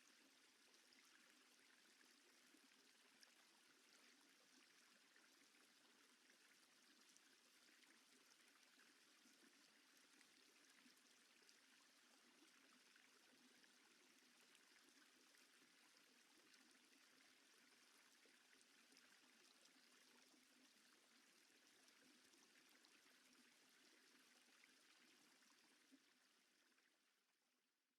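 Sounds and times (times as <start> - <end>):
faint steady hiss: 0.0 - 27.5.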